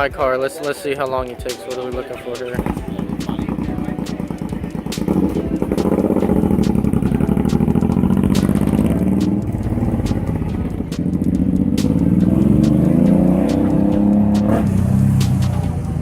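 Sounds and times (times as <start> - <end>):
car engine revving: 2.6 - 16.0.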